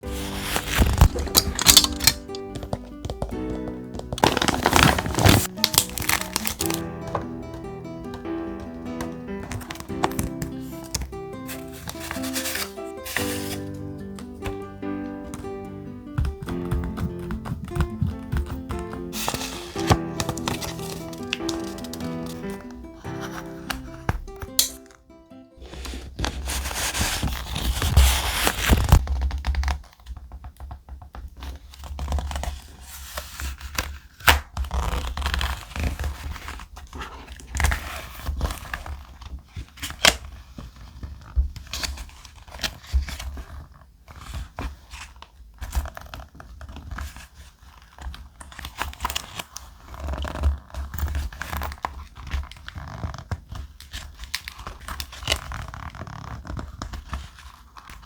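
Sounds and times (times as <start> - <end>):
paper rustling and tearing: 0.0 - 25.0, 25.6 - 30.0, 31.4 - 58.0.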